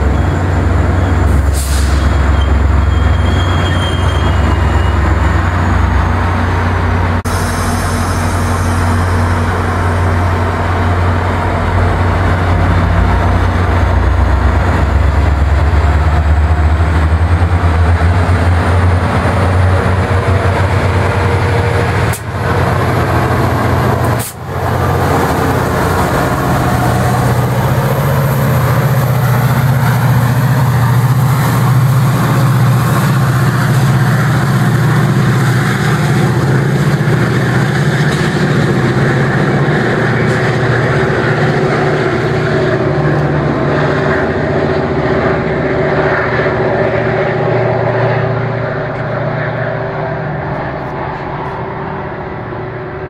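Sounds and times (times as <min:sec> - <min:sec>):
diesel locomotive engine drone: 0:00.0 - 0:53.0.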